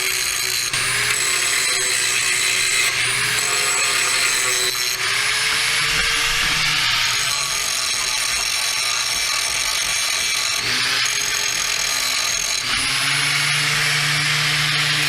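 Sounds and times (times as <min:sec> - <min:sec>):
power grinder grinding metal: 0:00.0 - 0:15.0.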